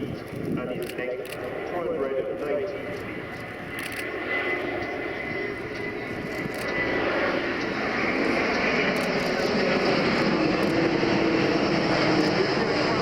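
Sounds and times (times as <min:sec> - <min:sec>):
jet airliner flying by: 0:00.0 - 0:13.0.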